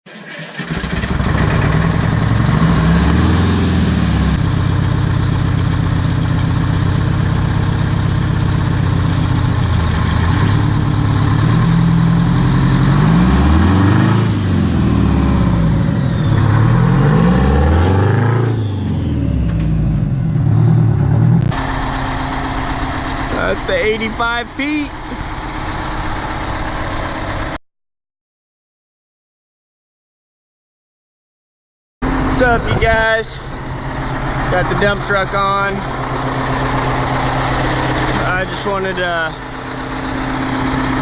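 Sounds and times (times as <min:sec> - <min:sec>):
diesel truck engine revving: 0:00.1 - 0:27.6, 0:32.0 - 0:41.0.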